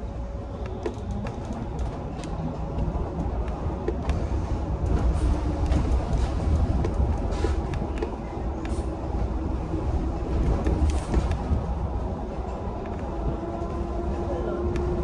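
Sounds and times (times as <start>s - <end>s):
trolleybus drive and tyres rumbling: 0.0s - 15.0s.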